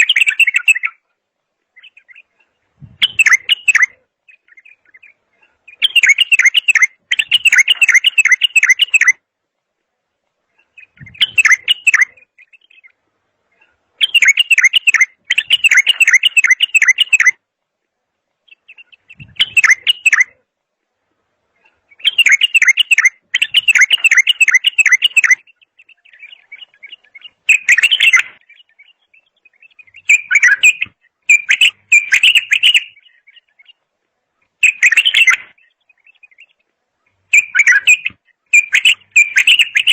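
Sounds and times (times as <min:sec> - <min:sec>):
songbird singing chattering phrases: 0:01.8 - 0:09.2, 0:10.6 - 0:17.4, 0:18.5 - 0:20.4, 0:21.6 - 0:33.8, 0:34.5 - 0:36.6, 0:37.3 - 0:39.9.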